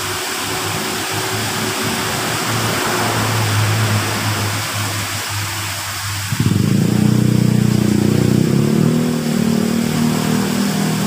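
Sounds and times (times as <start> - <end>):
low engine-like hum: 0.0 - 11.0
waterfall splashing into pool: 0.0 - 11.0.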